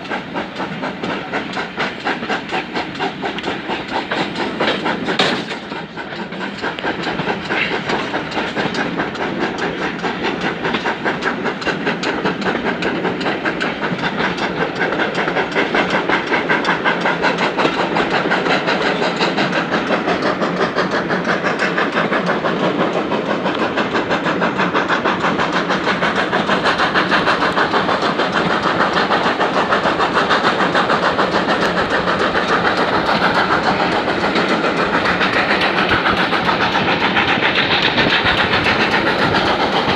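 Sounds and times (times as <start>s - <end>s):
steam locomotive exhaust beats: 0.0s - 39.9s
train wheels on rails: 0.0s - 39.9s.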